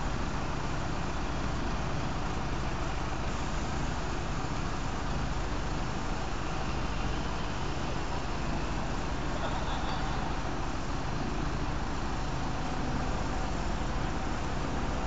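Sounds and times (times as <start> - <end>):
diesel engines rumbling: 0.0 - 15.0.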